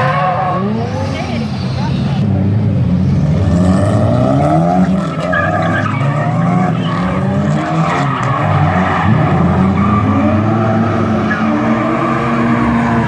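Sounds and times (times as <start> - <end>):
car engine revving hard: 0.0 - 13.0
tyres skidding: 0.0 - 13.0.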